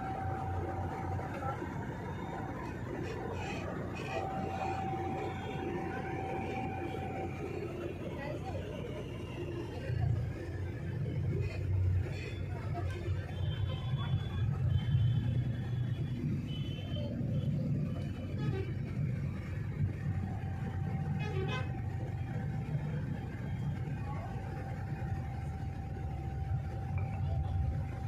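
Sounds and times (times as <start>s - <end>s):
coach engine rumble: 0.0s - 28.0s
faint steady whine: 0.0s - 28.0s.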